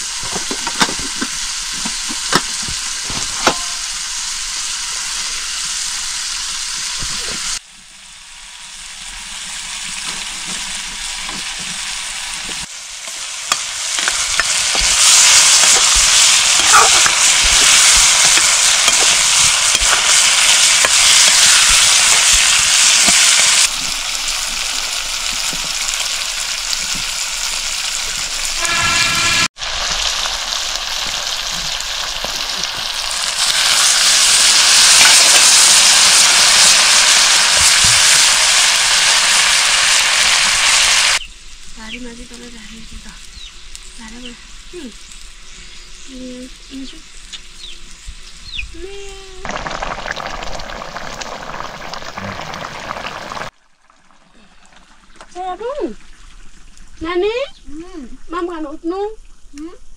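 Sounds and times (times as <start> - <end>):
food sizzling in a pan: 0.0 - 59.8.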